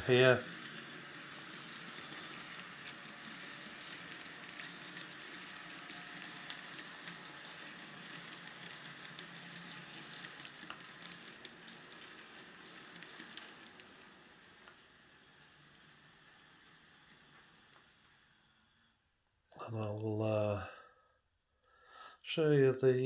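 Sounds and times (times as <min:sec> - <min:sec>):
light clicks of model train: 0:00.0 - 0:18.8
model train hum: 0:00.0 - 0:19.0.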